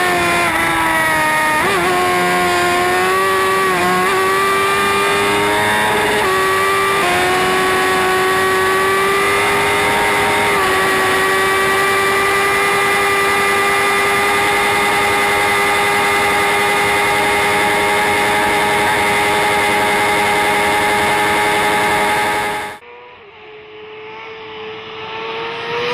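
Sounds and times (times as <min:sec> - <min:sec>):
motorcycle engine at high revs: 0:00.0 - 0:25.9.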